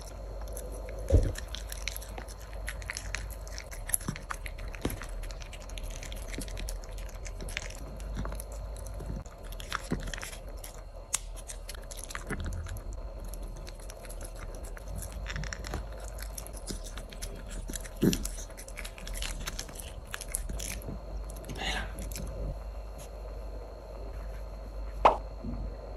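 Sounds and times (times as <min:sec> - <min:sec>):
puppy chewing food: 0:00.0 - 0:23.3.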